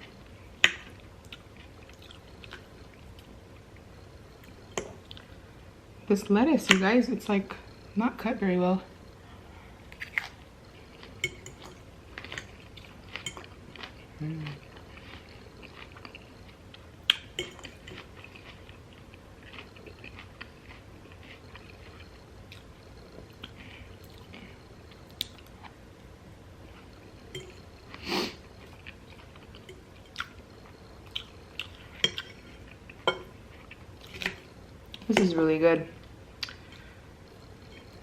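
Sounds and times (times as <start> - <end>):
person chewing salad: 0.8 - 5.4, 9.8 - 25.8, 26.6 - 35.1, 36.0 - 38.0.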